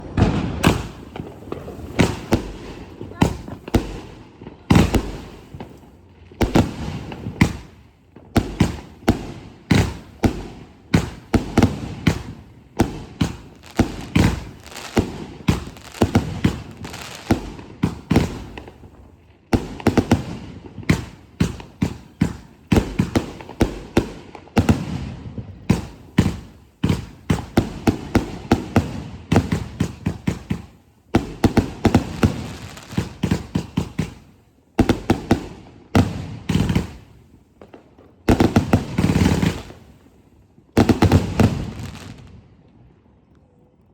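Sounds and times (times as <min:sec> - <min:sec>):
fireworks banging: 0:00.0 - 0:40.1, 0:40.8 - 0:42.3.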